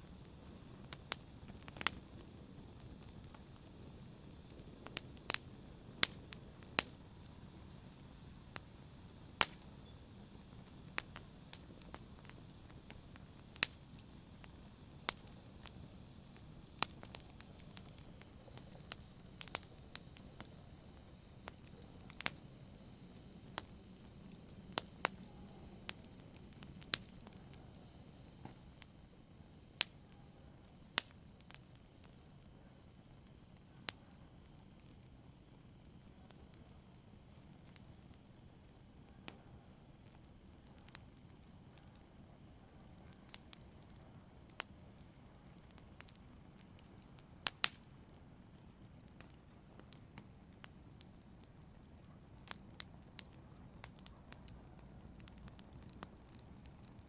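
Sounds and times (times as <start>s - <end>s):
soft hiss of flames: 0.0s - 57.0s
wood fire crackling and popping: 0.0s - 57.0s.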